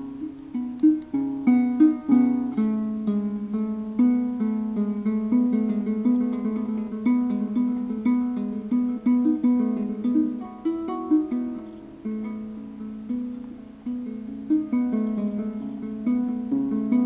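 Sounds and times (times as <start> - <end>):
string harp plucked: 0.0 - 17.0.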